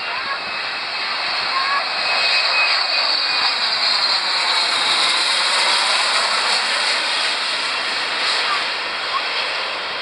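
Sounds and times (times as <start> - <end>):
jet flying low overhead: 0.0 - 10.0.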